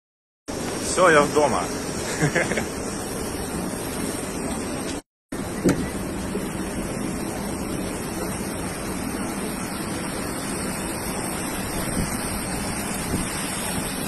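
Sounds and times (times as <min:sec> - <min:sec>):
steady rushing noise: 0:00.5 - 0:14.0.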